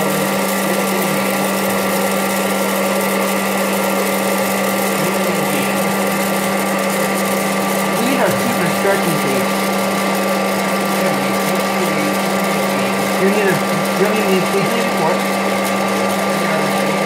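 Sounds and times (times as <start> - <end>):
fan motor humming: 0.0 - 17.0.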